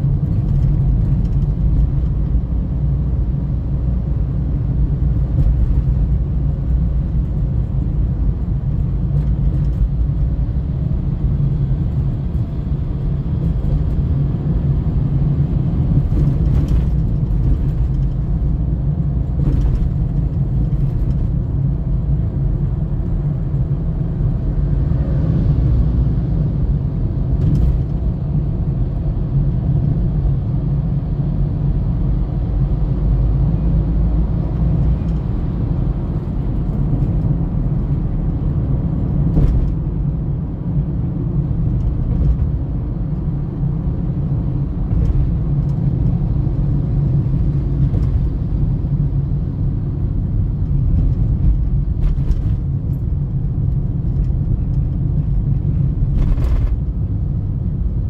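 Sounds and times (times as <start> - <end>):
car interior engine and tyre rumble: 0.0 - 58.0.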